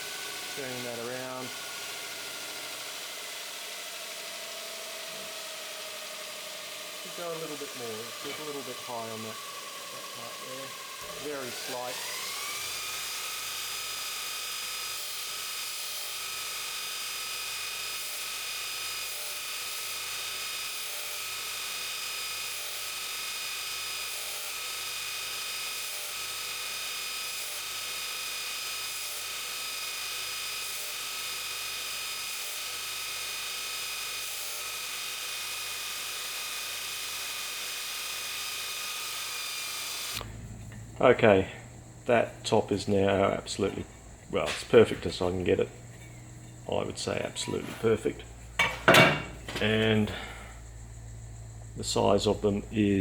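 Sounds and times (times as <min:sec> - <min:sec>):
sanding wheel whine and grinding: 0:00.0 - 0:50.1.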